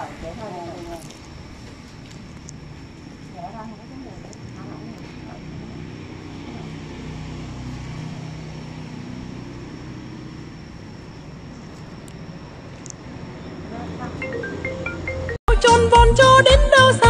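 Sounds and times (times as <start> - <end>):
engine droning: 0.0 - 15.4.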